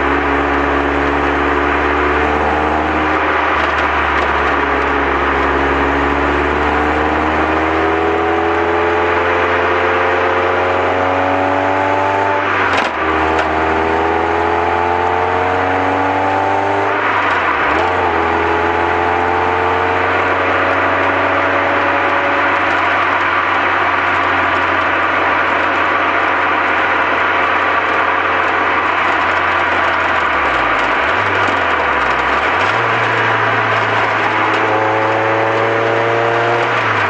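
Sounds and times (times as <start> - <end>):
car engine accelerating: 0.0 - 37.0
road and wind noise: 0.0 - 37.0.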